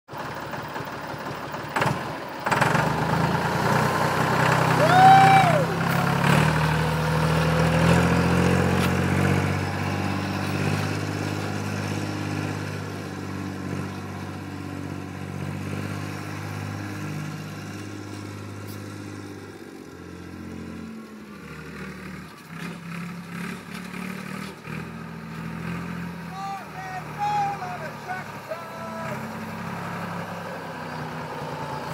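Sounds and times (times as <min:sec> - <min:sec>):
tractor engine starting and running: 0:00.1 - 0:31.9.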